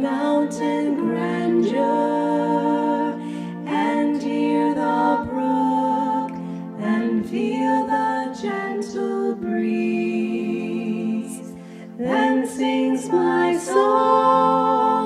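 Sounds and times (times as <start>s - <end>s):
slow hymn singing: 0.0s - 15.0s.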